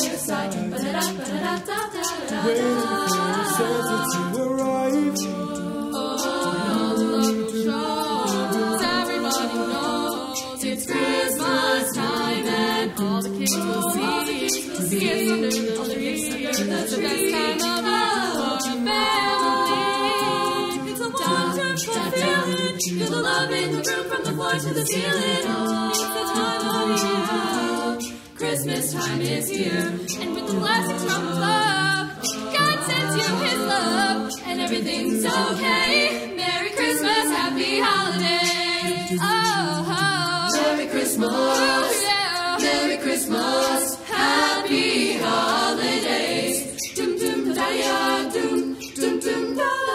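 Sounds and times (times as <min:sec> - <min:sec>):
group singing a cappella: 0:00.0 - 0:49.9.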